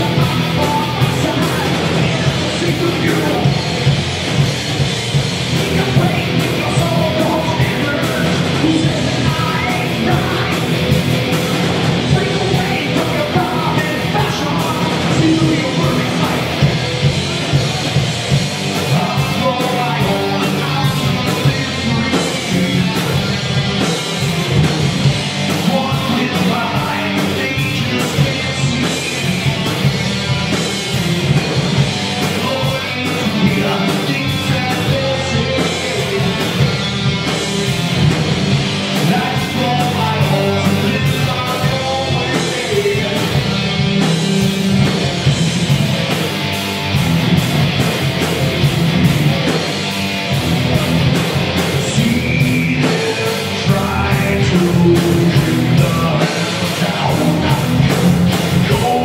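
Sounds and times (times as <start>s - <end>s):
person singing: 0.0s - 3.9s, 5.6s - 17.8s, 18.8s - 24.5s, 25.5s - 30.5s, 32.1s - 37.9s, 38.8s - 45.3s, 50.6s - 59.0s
bass guitar: 0.0s - 59.0s
drum kit: 0.0s - 59.0s
electric guitars: 0.0s - 59.0s.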